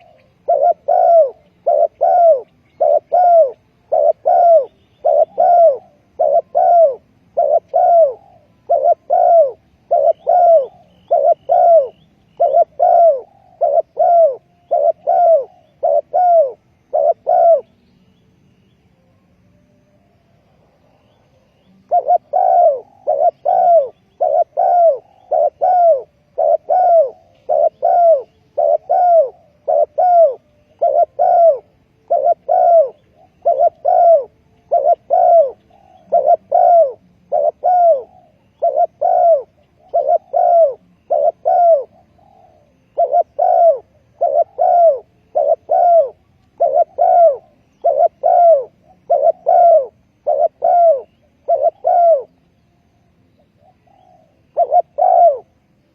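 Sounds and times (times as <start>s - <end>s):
dove cooing: 0.0s - 17.8s, 20.4s - 55.9s.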